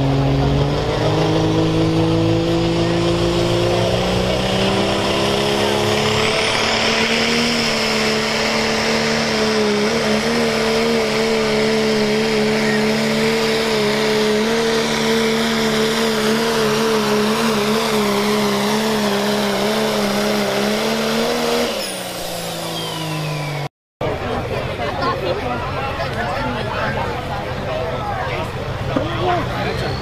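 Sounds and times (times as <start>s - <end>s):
diesel engine at high revs: 0.0s - 30.0s.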